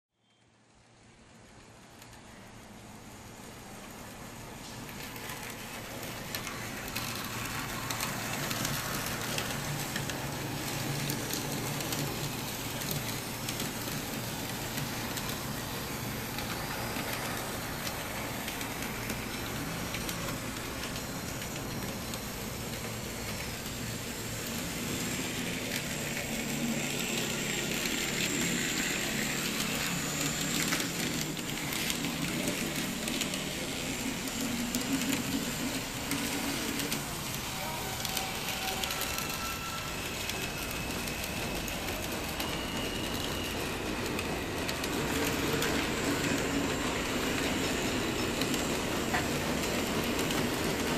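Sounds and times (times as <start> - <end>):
wheels rattling over rails: 3.7 - 50.9
small electric motors whirring: 4.9 - 50.9.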